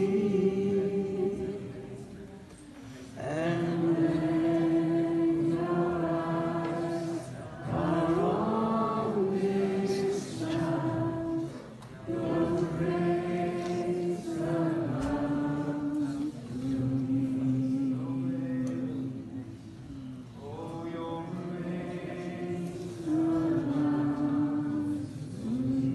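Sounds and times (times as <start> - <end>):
group singing worship song: 0.0 - 25.9.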